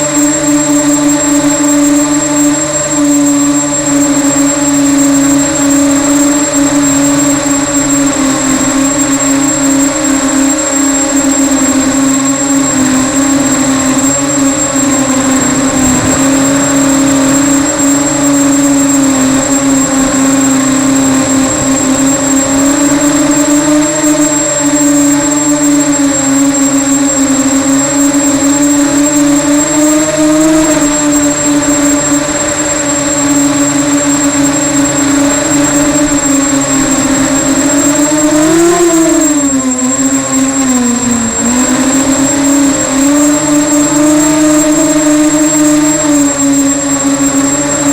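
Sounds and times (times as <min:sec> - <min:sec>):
drone propellers buzzing: 0:00.0 - 0:47.9
thin high whine: 0:00.0 - 0:47.9.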